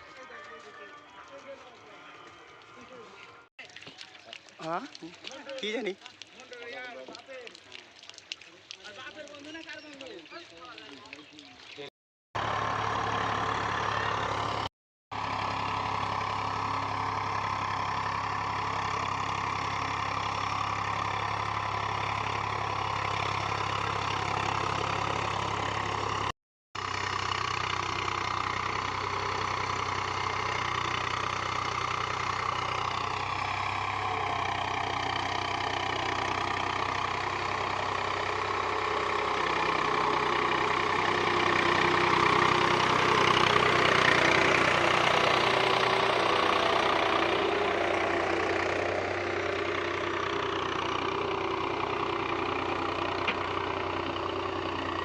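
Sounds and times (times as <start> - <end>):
tractor diesel engine running: 0.0 - 7.5, 12.4 - 55.0.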